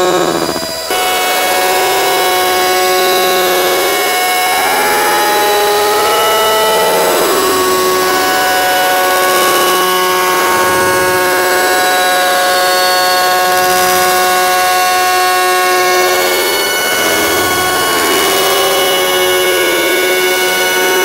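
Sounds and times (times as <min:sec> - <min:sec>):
sustained drone of held tones: 0:00.0 - 0:21.0.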